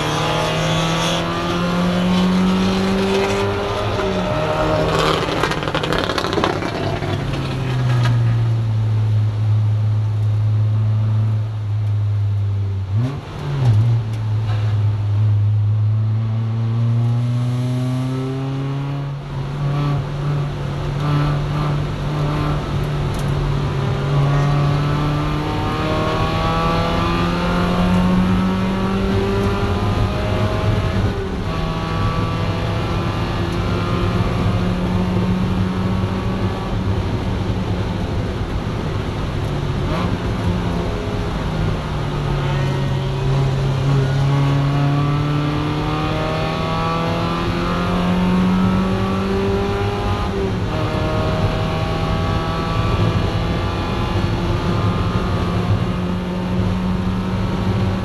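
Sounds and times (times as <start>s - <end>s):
race car engine revving: 0.0s - 8.1s, 16.0s - 58.0s.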